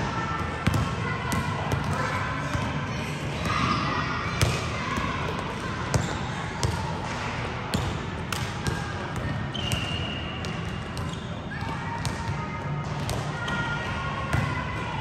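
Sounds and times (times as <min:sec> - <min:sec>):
basketballs bouncing on gym floor: 0:00.4 - 0:03.8, 0:04.4 - 0:06.9, 0:07.7 - 0:13.6, 0:14.3 - 0:14.9.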